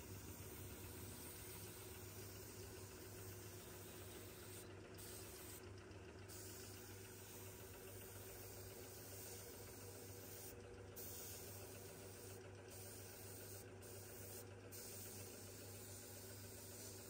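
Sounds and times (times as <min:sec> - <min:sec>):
low steady hum: 0:00.0 - 0:17.0
paint spray gun hissing: 0:00.0 - 0:17.0.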